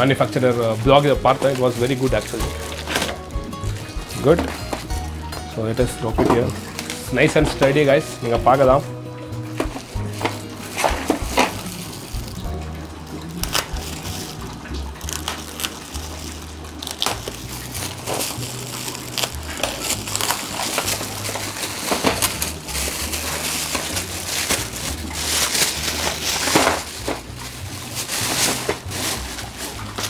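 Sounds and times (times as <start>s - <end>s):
plastic wrapping crinkling: 0.0s - 30.0s.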